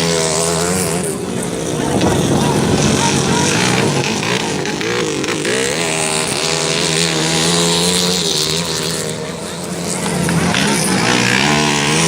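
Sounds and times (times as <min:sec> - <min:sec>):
dense wash of noise: 0:00.0 - 0:12.0
motorcycle engine revving: 0:00.0 - 0:12.0
steady engine note: 0:00.0 - 0:12.0.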